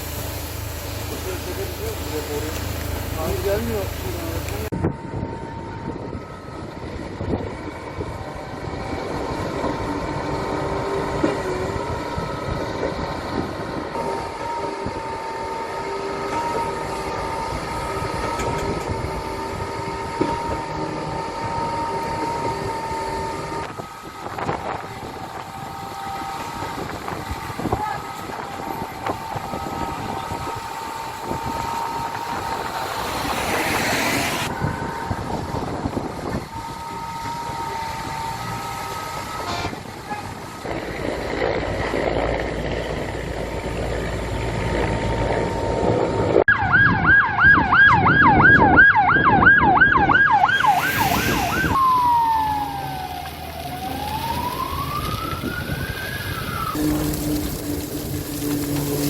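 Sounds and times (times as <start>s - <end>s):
emergency siren yelp and wail: 0.7s - 59.0s.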